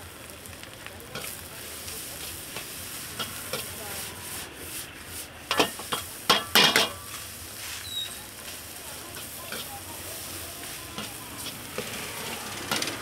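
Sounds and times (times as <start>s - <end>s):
food sizzling while stirred: 0.0s - 13.0s.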